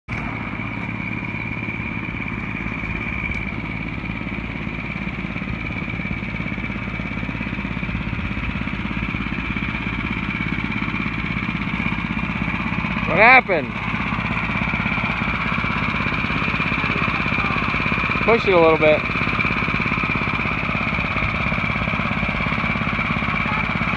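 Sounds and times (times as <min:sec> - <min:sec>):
go-kart engine running: 0:00.1 - 0:23.9.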